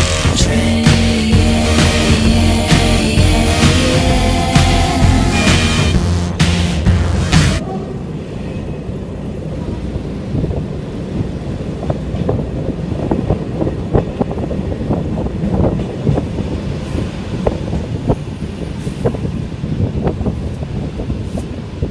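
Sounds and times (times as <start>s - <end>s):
train running rumble: 0.0s - 21.9s.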